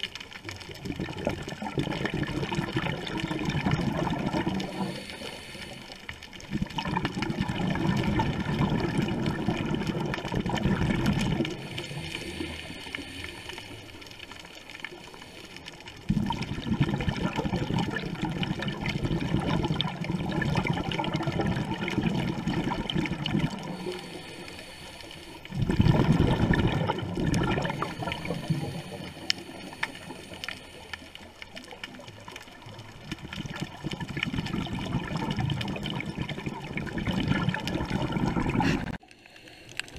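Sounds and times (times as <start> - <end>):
underwater breath bubbling: 0.0 - 39.9.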